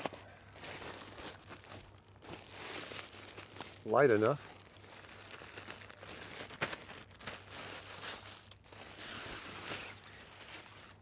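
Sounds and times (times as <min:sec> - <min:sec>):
plastic bag crinkling: 0:00.0 - 0:11.0
sharp plastic crackle: 0:00.0 - 0:11.0.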